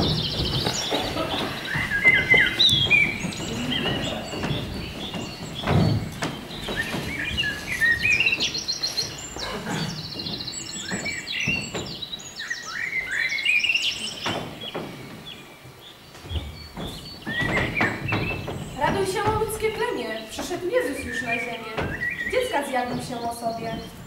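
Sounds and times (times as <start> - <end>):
dull thuds: 0.0 - 12.3, 14.0 - 24.0
recorded birdsong chirps and trills: 0.0 - 24.0.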